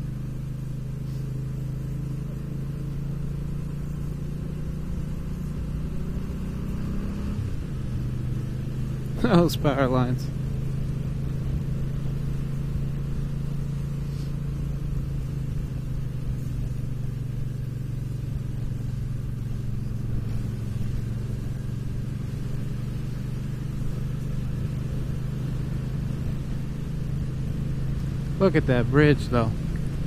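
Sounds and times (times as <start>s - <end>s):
motorcycle engine humming: 0.0s - 30.0s.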